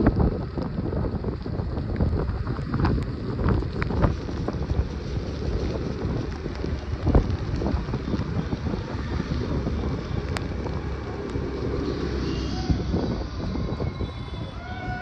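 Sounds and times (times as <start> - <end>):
scooter road and engine noise: 0.0 - 15.0
wind buffeting microphone: 0.0 - 15.0.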